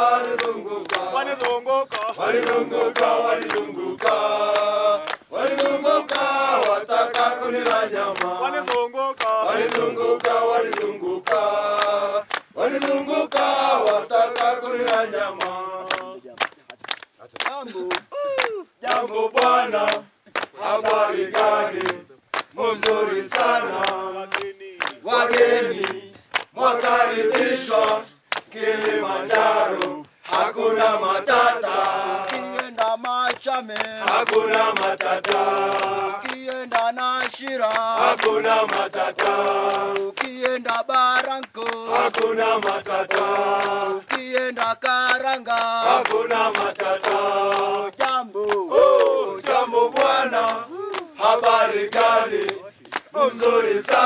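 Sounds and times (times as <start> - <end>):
men chanting in chorus: 0.0 - 16.4, 18.8 - 54.0
hand-clapping: 0.0 - 54.0.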